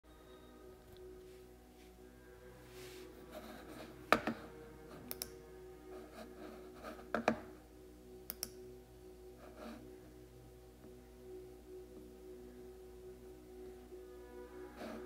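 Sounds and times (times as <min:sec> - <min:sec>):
soft musical drone: 0:00.0 - 0:15.0.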